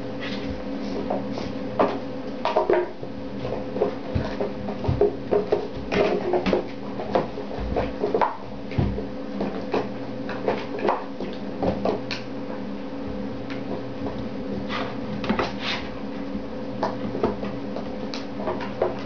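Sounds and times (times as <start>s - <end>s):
puppies scuffling on bedding: 0.0s - 11.8s, 13.6s - 19.0s
steady low hum: 0.0s - 19.0s.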